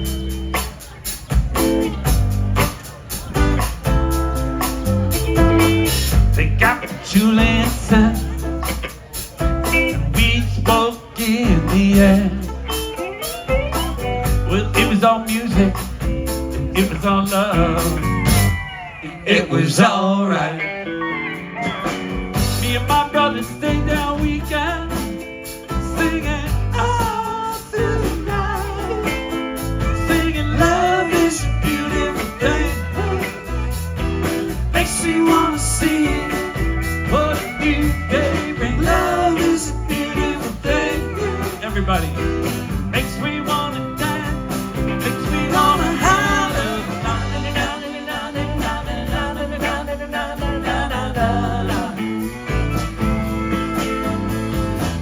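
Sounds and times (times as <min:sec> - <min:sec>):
live blues-rock band: 0:00.0 - 0:55.0.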